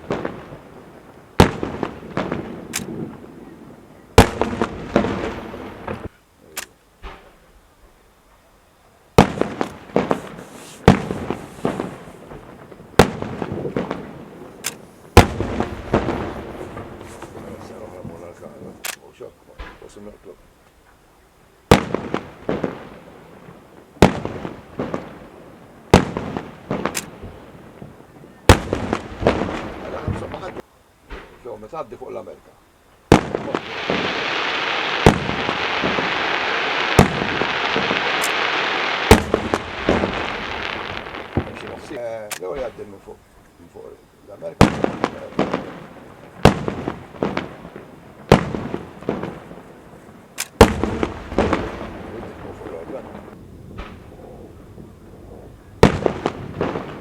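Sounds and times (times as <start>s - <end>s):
rattle of firework cracks: 0.0s - 3.4s, 4.2s - 7.5s, 9.2s - 21.0s, 21.7s - 32.0s, 33.1s - 49.7s, 50.3s - 54.4s
fireworks bangs: 0.0s - 6.1s, 7.0s - 7.6s, 9.1s - 18.8s, 19.5s - 20.5s, 21.7s - 32.4s, 33.1s - 57.0s.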